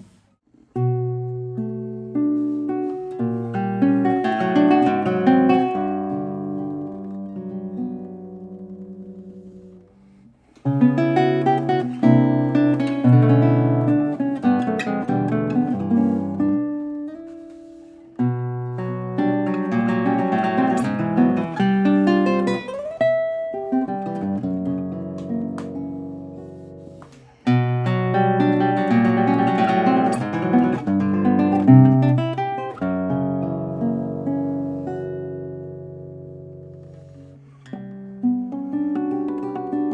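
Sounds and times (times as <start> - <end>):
classical guitar playing: 0.0 - 39.9.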